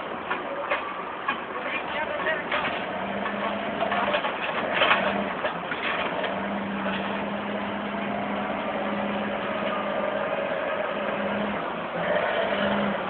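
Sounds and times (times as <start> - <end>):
heavy diesel engines running: 0.0 - 13.0.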